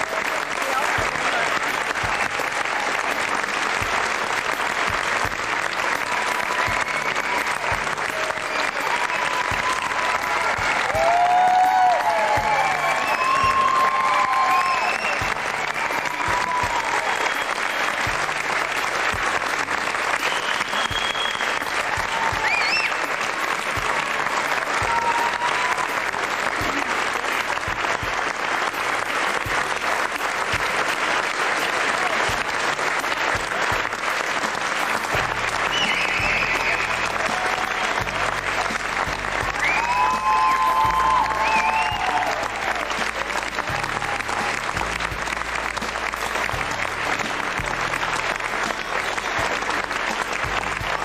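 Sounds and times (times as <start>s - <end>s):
crowd applauding: 0.0s - 51.0s.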